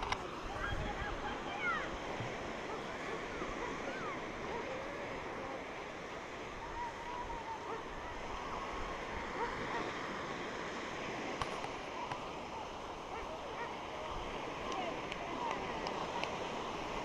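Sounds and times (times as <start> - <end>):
surf washing over sandy beach: 0.0 - 17.0.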